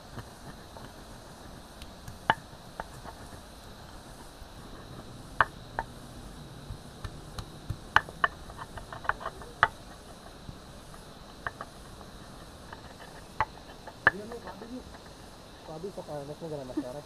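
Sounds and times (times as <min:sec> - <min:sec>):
faint insect drone: 0:00.0 - 0:17.0.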